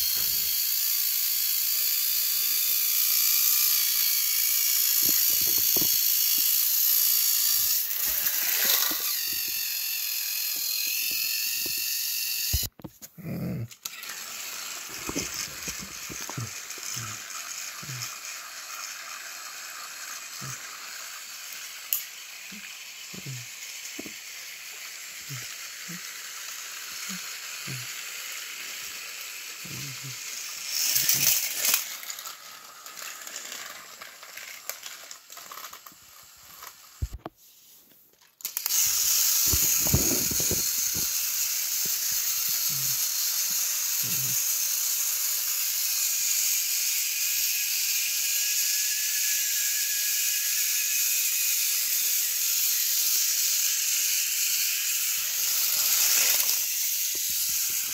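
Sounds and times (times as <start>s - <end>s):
toy train engines whirring: 0.0s - 57.9s.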